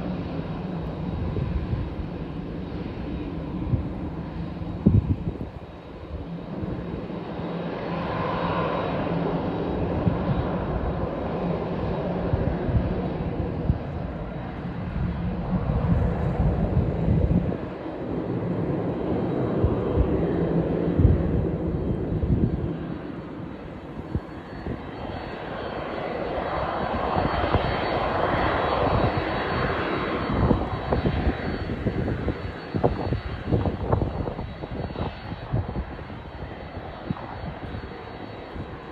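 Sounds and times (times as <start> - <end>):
jet engines roaring: 0.0 - 38.9
wind buffeting microphone: 0.2 - 38.9.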